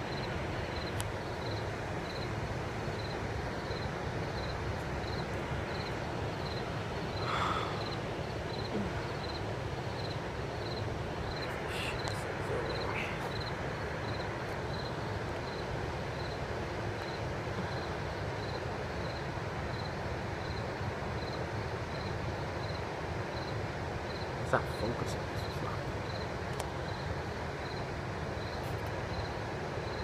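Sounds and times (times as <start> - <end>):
insect chirping: 0.0 - 30.0.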